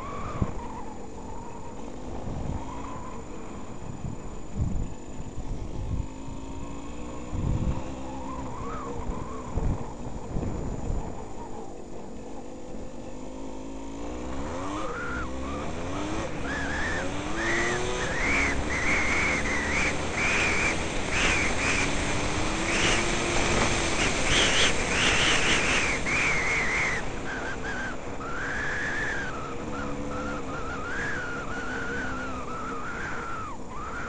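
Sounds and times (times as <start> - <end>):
wind noise on microphone: 0.0 - 11.8, 14.5 - 34.0
dirt bike engine accelerating: 0.0 - 34.0.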